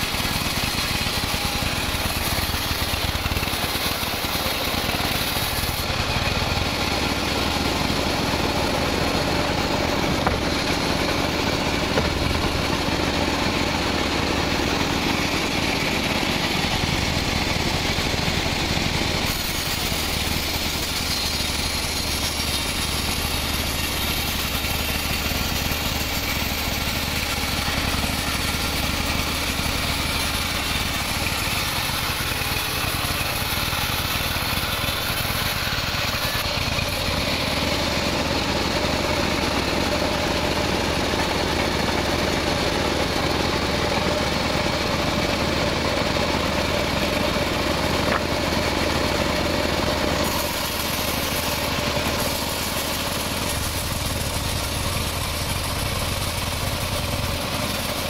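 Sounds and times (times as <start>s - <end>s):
saw blade hissing in wood: 0.0s - 44.7s, 46.7s - 58.0s
sawmill machine drone: 0.0s - 58.0s.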